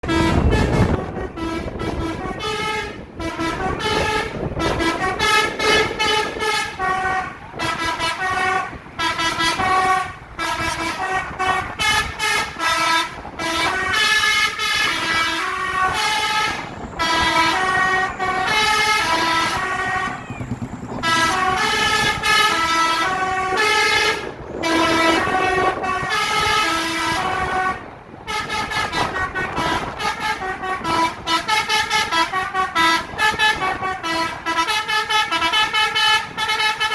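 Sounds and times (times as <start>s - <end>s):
musical bus horn playing a tune: 0.0s - 36.9s.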